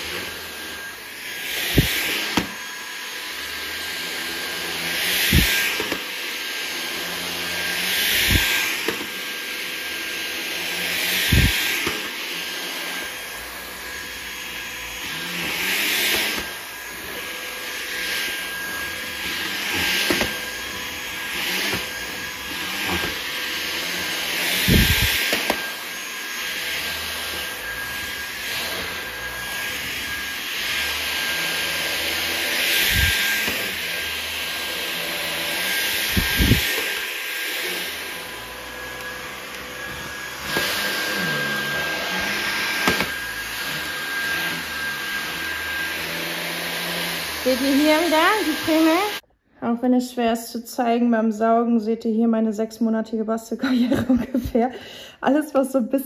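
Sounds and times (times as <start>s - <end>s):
stick vacuum motor whine: 0.0s - 49.2s.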